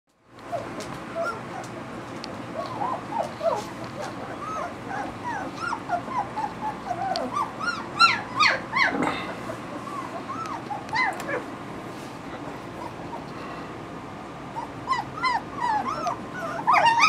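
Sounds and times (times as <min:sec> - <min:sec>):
puppies whimpering and squeaking: 0:00.5 - 0:11.5, 0:12.5 - 0:13.4, 0:14.4 - 0:17.0.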